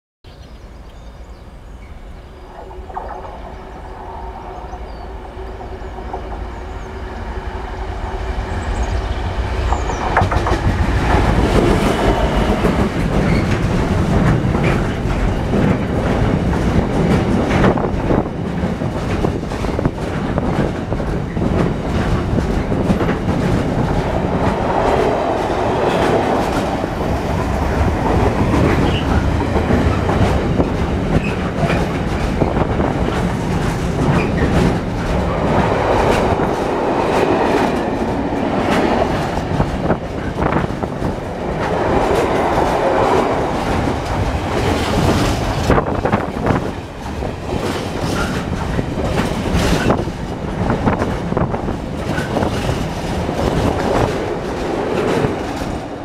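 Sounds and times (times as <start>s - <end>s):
diesel locomotive passing: 0.6s - 56.0s
train wheels clacking over rail joints: 9.6s - 56.0s.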